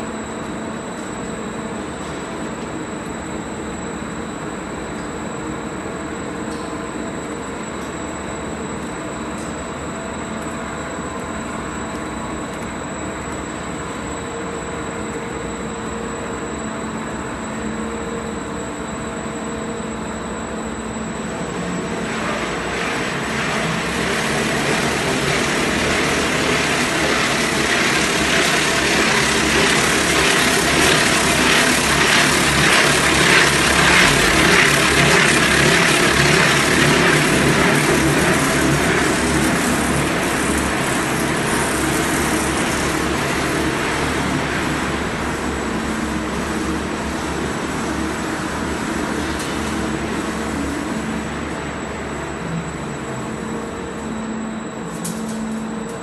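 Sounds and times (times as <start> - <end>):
wire drawing machine running: 0.0 - 56.0.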